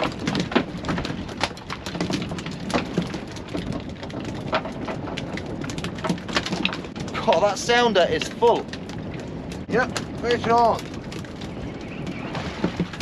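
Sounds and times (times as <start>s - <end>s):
fish flapping against boat: 0.0s - 13.0s
sea noise: 0.0s - 13.0s
wind: 0.0s - 13.0s.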